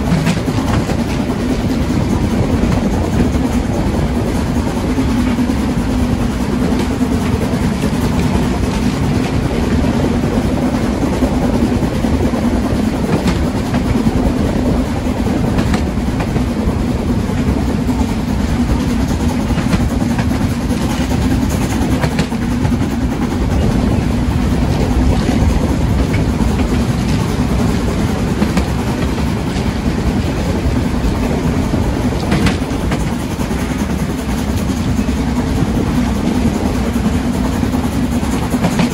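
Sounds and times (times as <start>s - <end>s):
train rumbling along rails: 0.0s - 38.9s.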